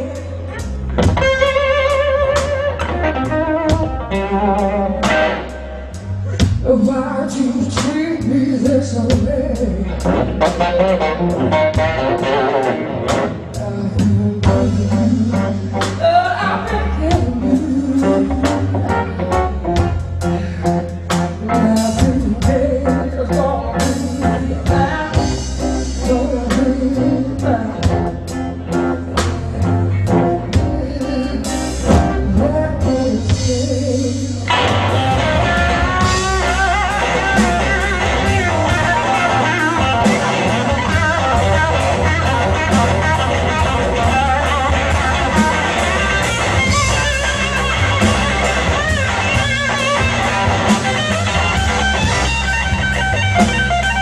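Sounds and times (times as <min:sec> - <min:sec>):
blues-rock band playing: 0:00.0 - 0:54.0
wavering lead guitar: 0:00.0 - 0:54.0.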